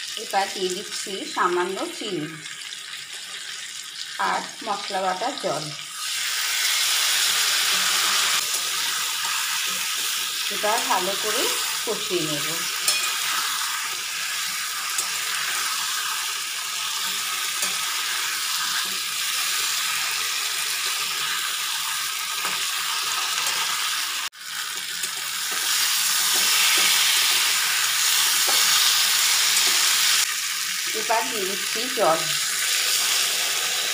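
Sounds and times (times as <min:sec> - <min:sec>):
food sizzling in hot oil: 0:00.0 - 0:33.9.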